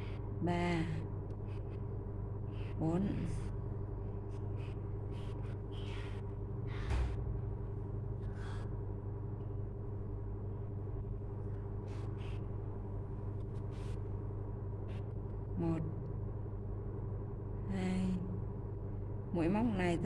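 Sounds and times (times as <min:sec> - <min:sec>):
low motor-like hum: 0:00.0 - 0:20.0.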